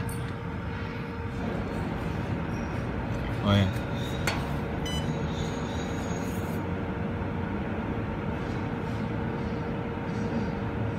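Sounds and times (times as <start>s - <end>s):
mechanical running hum: 0.0s - 10.9s.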